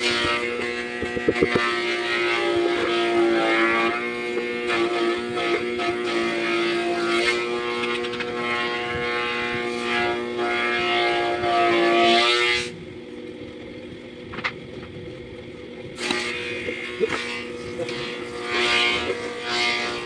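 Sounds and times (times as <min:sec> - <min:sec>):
power tool motor humming: 0:00.0 - 0:20.0.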